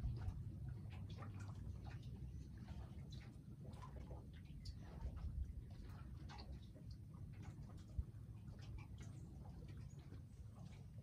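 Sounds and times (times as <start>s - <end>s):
small waves lapping against dock: 0.0s - 11.0s
wind rumble on microphone: 0.0s - 11.0s.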